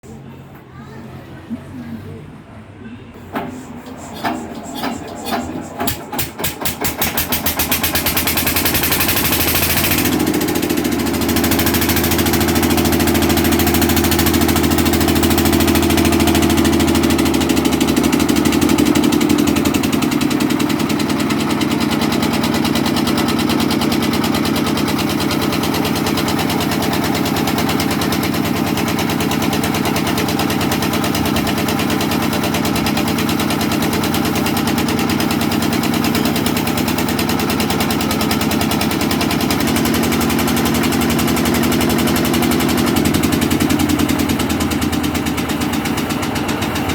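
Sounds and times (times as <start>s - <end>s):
engine starting and idling: 3.2s - 46.9s.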